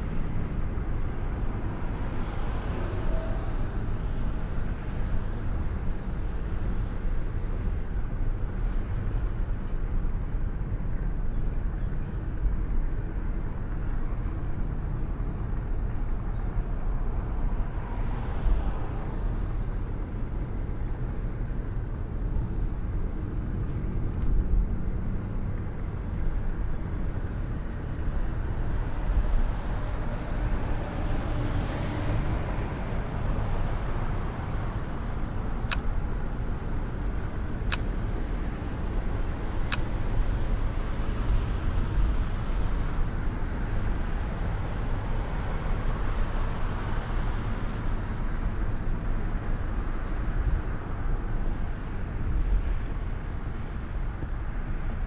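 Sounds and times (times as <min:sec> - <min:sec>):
cars passing: 0:00.0 - 0:07.4, 0:12.3 - 0:55.0
car road rumble and tyre noise: 0:00.0 - 0:55.0.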